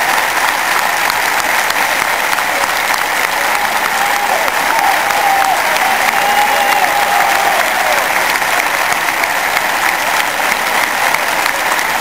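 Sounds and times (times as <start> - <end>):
stadium crowd clapping: 0.0 - 12.0.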